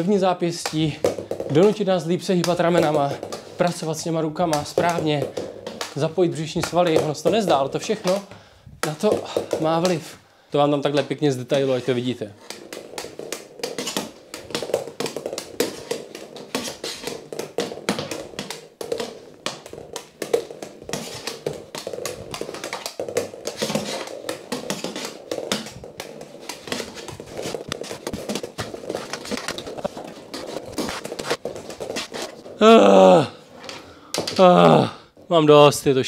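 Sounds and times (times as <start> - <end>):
floorball stick and ball clicking: 0.0 - 35.3.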